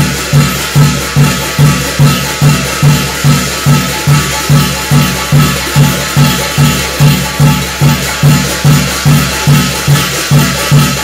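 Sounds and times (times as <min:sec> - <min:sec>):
drum beaten steadily: 0:00.0 - 0:11.0
high metallic shimmer: 0:00.0 - 0:11.0.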